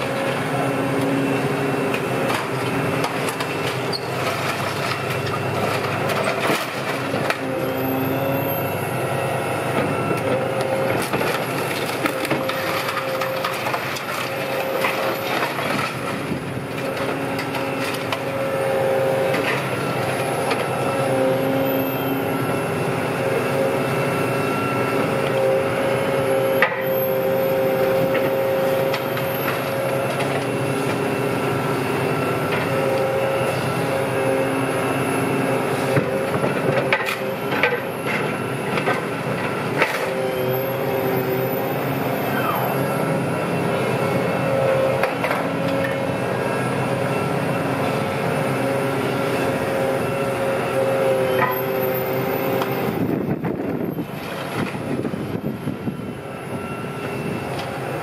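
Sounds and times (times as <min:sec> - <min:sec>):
heavy machinery running: 0:00.0 - 0:58.0.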